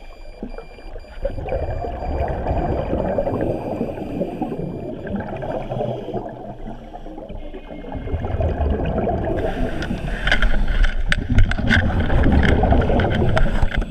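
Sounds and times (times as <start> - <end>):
air bubbles crackling and splashing: 0.0 - 13.9
muffled underwater water noise: 0.0 - 13.9.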